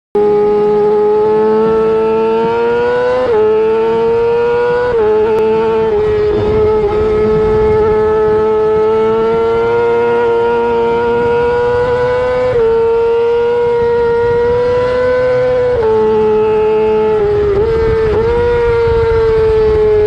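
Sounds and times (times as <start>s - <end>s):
motorcycle engine at high revs: 0.2s - 20.0s.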